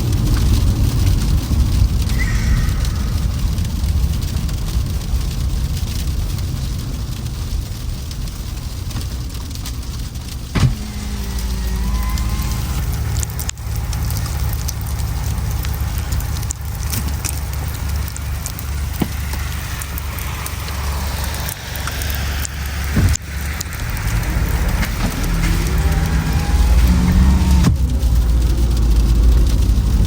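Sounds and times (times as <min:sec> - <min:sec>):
car engine and tyre rumble: 0:00.0 - 0:30.0
snow crackling under tyres: 0:00.0 - 0:30.0.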